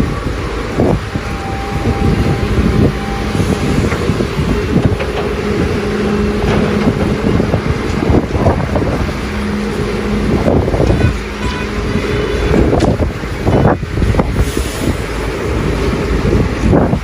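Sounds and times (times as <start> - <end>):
excavator engine hum: 0.0 - 17.0.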